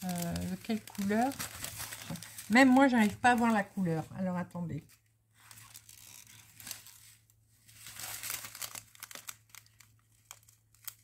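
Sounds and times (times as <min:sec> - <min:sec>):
plastic bag crinkling: 0:00.0 - 0:04.2, 0:04.8 - 0:11.0.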